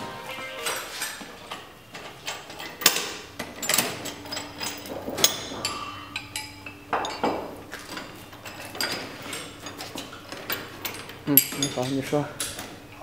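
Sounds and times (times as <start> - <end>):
metal clanks and knocks: 0.6 - 12.8.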